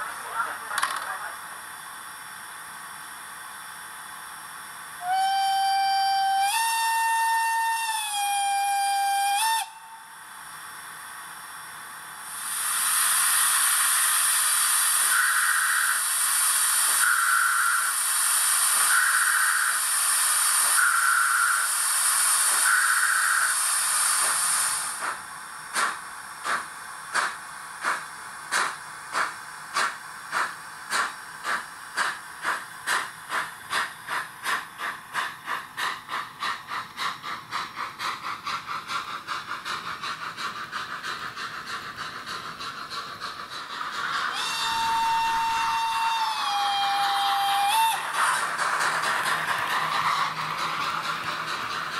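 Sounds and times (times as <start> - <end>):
steam hiss with pulsing note: 1.4 - 51.9
steam locomotive exhaust chuffs: 2.0 - 51.9.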